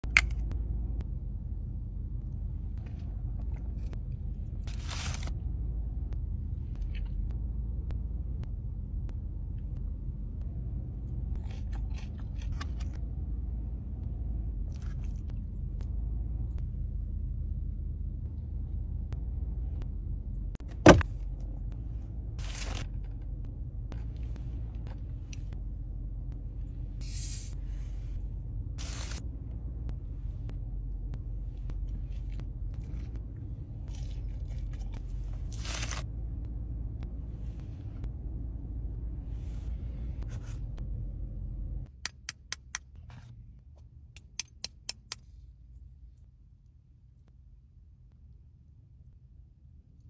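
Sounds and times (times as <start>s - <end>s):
car cabin engine rumble: 0.0s - 42.0s.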